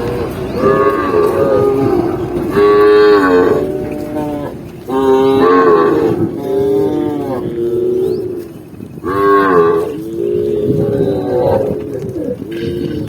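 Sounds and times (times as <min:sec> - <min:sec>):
cattle mooing: 0:00.0 - 0:13.0.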